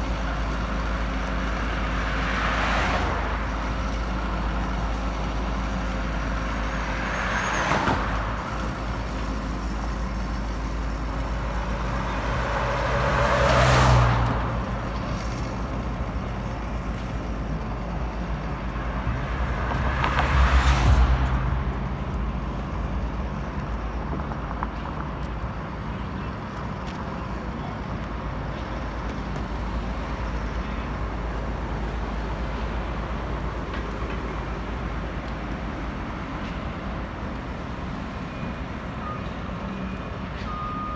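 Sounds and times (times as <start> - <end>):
traffic rumble: 0.0 - 40.9
vehicles passing by: 0.0 - 40.9.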